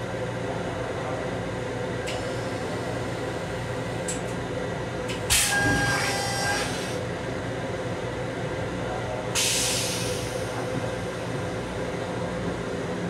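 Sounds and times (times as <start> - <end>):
moving train hum: 0.0 - 13.0.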